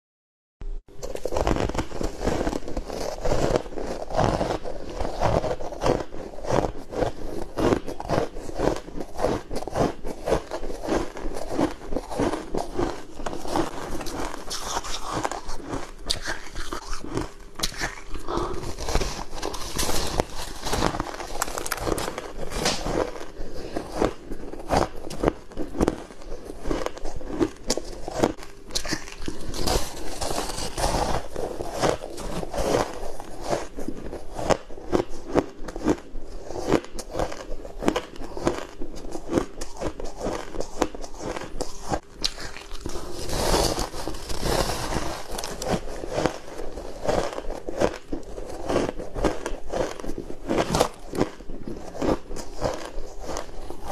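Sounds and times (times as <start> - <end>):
ice crunching between teeth: 1.0 - 53.9.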